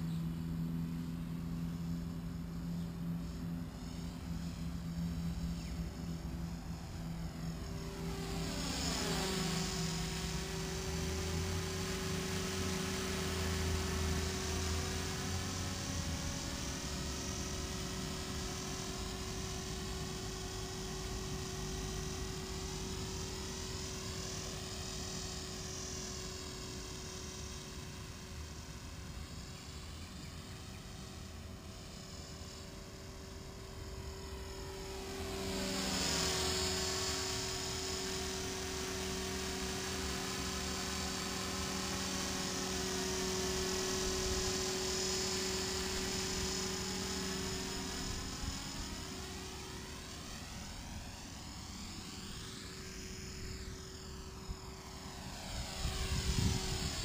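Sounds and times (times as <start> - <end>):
rc helicopter motor whine: 0.0 - 57.0.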